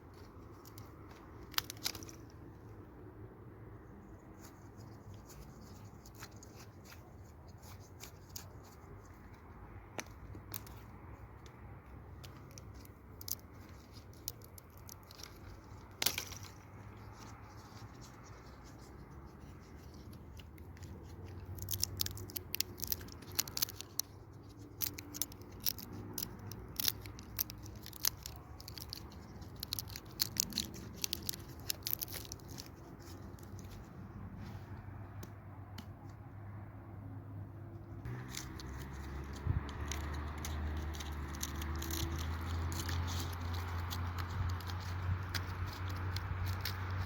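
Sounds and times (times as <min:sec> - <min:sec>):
crackling and clicking: 0:00.0 - 0:02.9, 0:03.7 - 0:34.2, 0:38.0 - 0:47.0.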